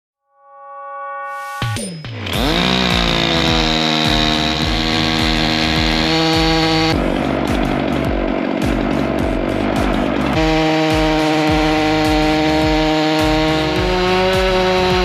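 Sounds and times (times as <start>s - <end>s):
chainsaw cutting log: 2.2s - 15.0s.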